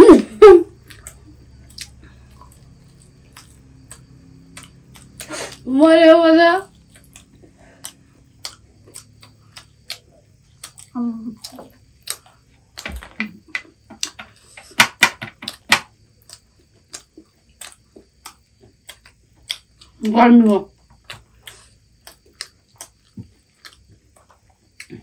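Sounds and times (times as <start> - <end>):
crunching fried chicken: 0.8 - 5.7, 6.7 - 12.8, 15.4 - 20.1, 20.7 - 25.0.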